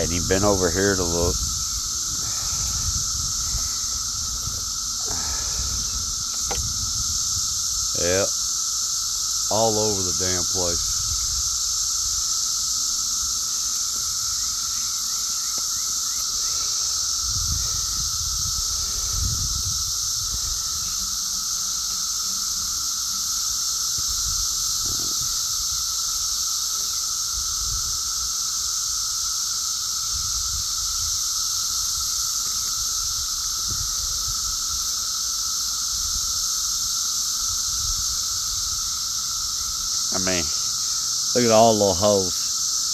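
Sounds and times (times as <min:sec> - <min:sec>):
cicadas droning: 0:00.0 - 0:42.9.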